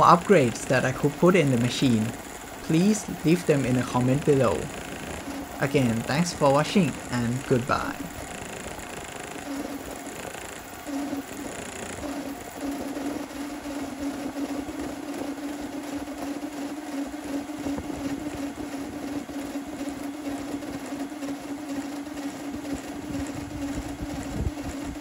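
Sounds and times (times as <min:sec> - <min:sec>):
three-d printer motors and fans droning: 0:00.0 - 0:25.0.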